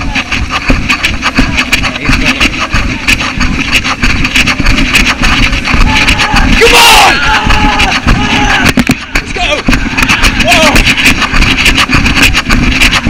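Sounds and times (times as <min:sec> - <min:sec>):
footsteps on cobblestones: 0:00.0 - 0:13.0.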